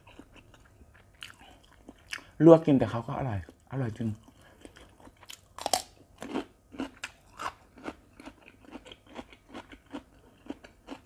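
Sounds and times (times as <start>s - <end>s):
crunchy chewing: 0.0s - 2.3s, 3.4s - 11.0s.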